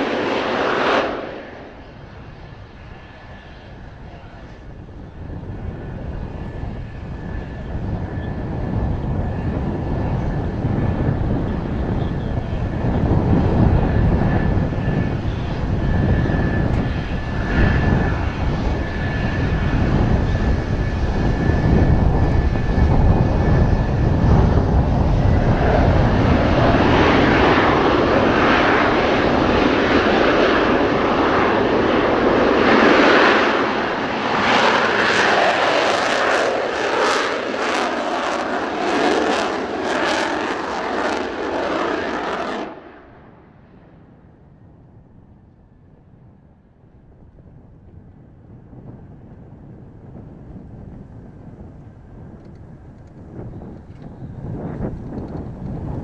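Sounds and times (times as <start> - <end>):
jet engines rumbling with whine: 0.0 - 56.0
wind buffeting microphone: 0.0 - 56.0.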